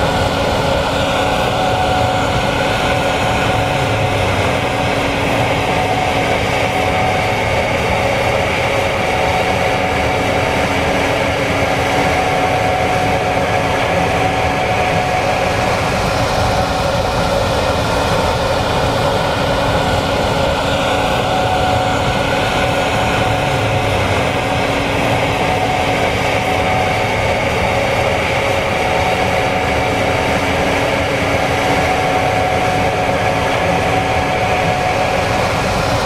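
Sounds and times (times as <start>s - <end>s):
combine harvester drone and whine: 0.0s - 36.0s.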